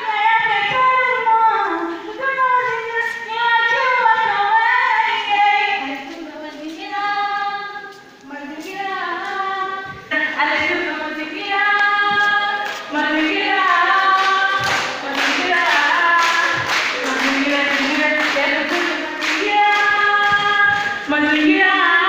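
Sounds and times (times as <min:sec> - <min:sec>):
girl singing unaccompanied: 0:00.0 - 0:22.0.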